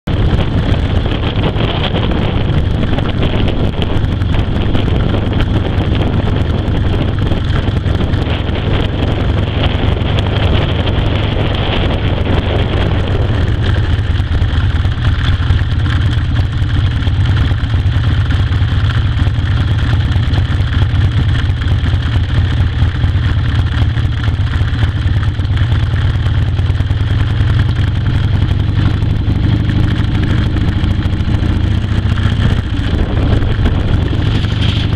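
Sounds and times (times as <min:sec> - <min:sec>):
road rumble: 0:00.0 - 0:34.9
vehicle engine: 0:00.0 - 0:34.9
wind noise on microphone: 0:00.0 - 0:34.9.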